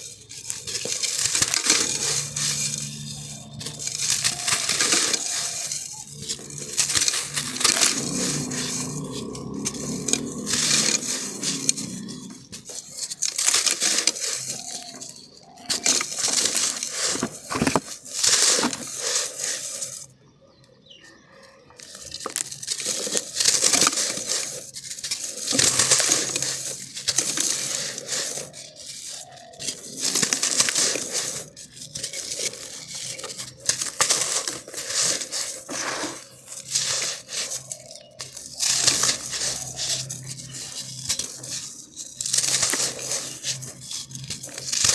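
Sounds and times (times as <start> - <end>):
sand crushed by hand: 0.0 - 20.1, 21.8 - 44.9.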